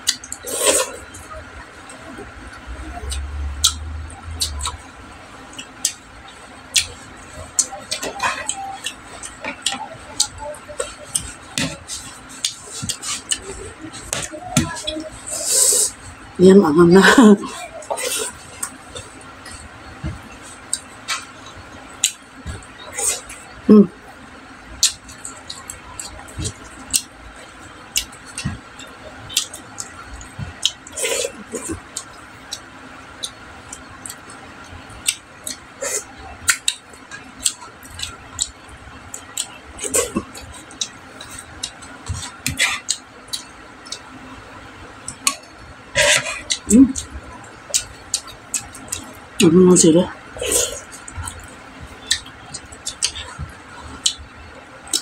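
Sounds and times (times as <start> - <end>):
chewing and lip-smacking: 0.0 - 16.2, 17.4 - 23.6, 24.8 - 49.5, 50.2 - 55.0
fingers mixing wet food: 5.5 - 23.6, 24.8 - 55.0.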